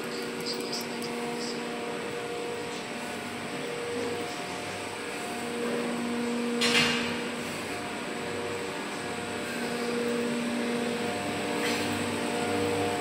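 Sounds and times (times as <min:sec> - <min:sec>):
fan noise: 0:00.0 - 0:13.0
machinery hum: 0:00.0 - 0:13.0.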